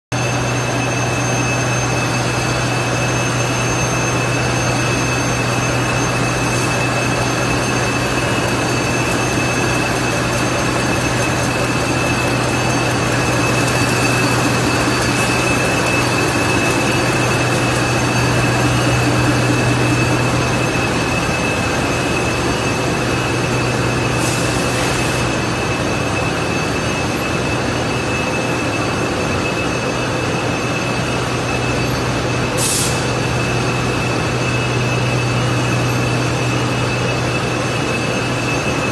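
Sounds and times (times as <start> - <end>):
high steady machine whines: 0.1 - 38.9
industrial machine din: 0.2 - 38.9
low machine hum: 0.2 - 38.9.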